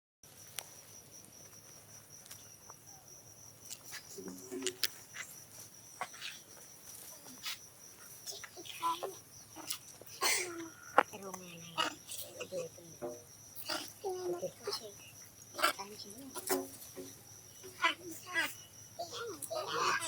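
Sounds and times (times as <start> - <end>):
crickets chirping: 0.3 - 20.0.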